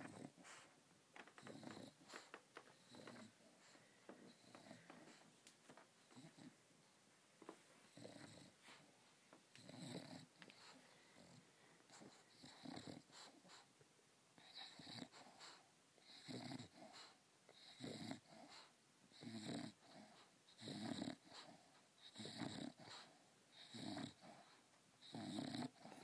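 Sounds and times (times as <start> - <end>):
dog snoring and wheezing: 0.0 - 5.3, 6.0 - 6.6, 7.8 - 8.8, 9.6 - 13.7, 14.4 - 26.0.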